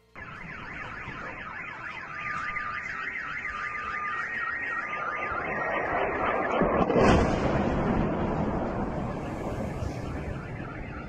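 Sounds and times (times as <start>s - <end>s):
car alarm warbling: 0.0s - 11.0s
steady electronic tone: 0.0s - 11.0s
rushing noise: 0.2s - 11.0s.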